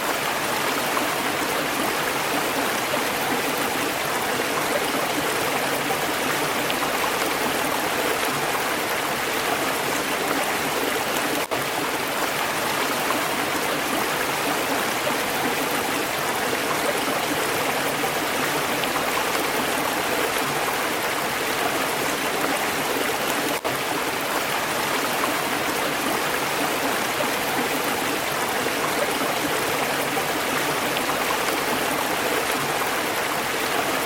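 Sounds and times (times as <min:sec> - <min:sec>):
stream water gurgling: 0:00.0 - 0:34.0.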